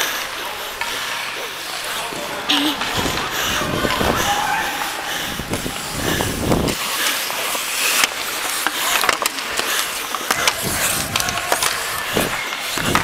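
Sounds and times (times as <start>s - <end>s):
hockey sticks clacking on ice: 0.0s - 5.0s, 6.7s - 13.0s
ice skate blades scraping: 0.0s - 13.0s.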